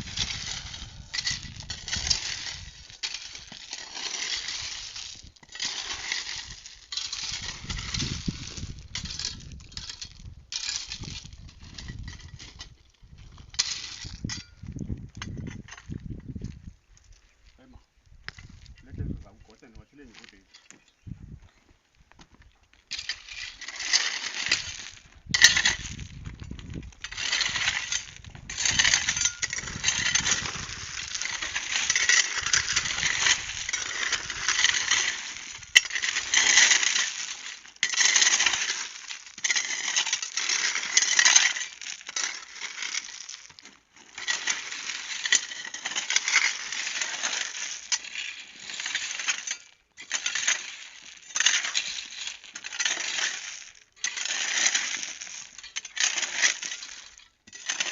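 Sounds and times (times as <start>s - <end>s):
metal tool scraping stony soil: 0.0s - 16.4s, 22.8s - 57.9s.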